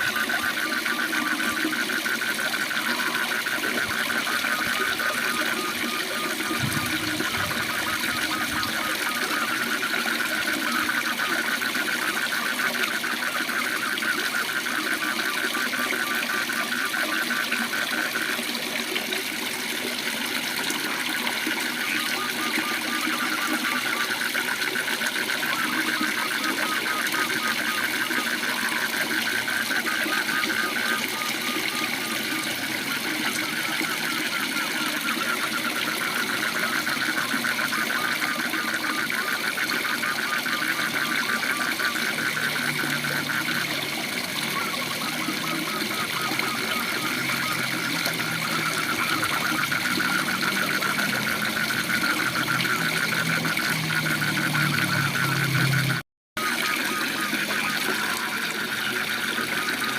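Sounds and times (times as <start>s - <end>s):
frog trilling: 0.0s - 59.9s.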